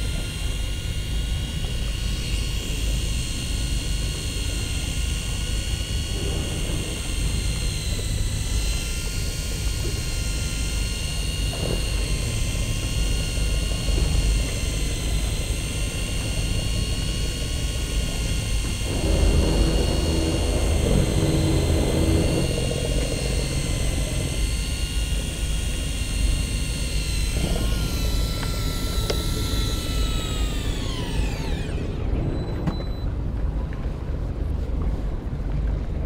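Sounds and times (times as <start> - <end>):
electric reel motor whining: 0.0 - 33.0
lower hum: 0.0 - 36.0.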